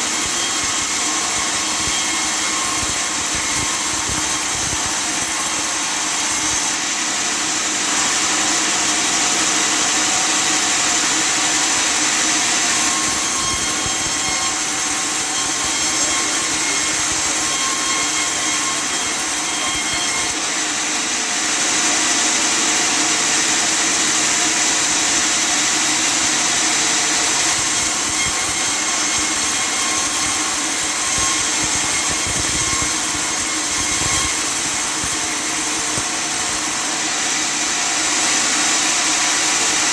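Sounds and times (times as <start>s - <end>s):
sawmill cutting wood: 0.0s - 39.9s.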